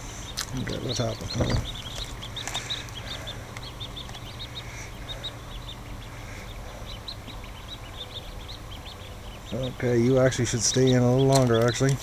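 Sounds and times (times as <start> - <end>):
ducklings peeping: 0.0 - 12.0
steady low hum: 0.0 - 12.0.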